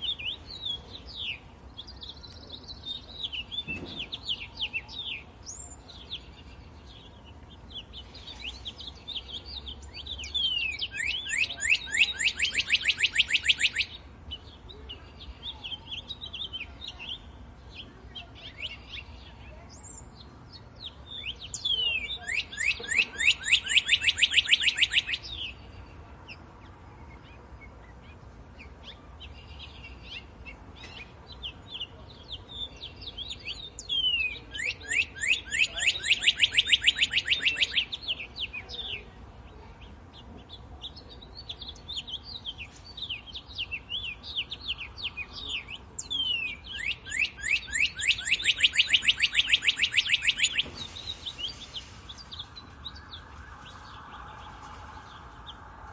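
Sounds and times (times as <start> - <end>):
faint bird chirps: 0.0 - 55.6
songbird singing: 0.0 - 55.9.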